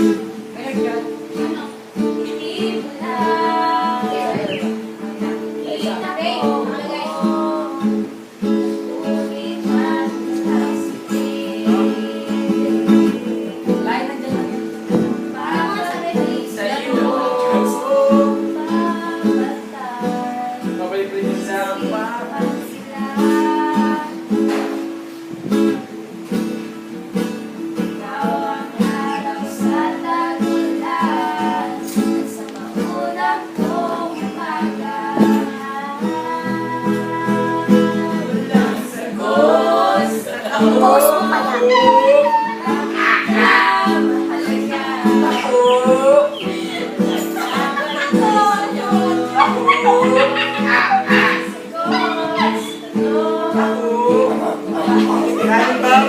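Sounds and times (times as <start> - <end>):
acoustic guitar strumming: 0.0 - 56.0
person singing: 0.0 - 56.0.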